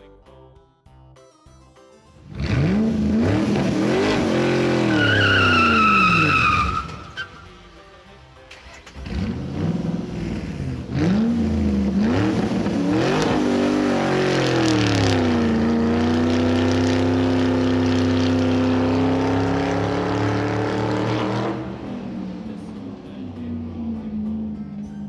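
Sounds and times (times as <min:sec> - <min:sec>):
vehicle engine revving: 0:02.2 - 0:07.8, 0:08.5 - 0:25.0.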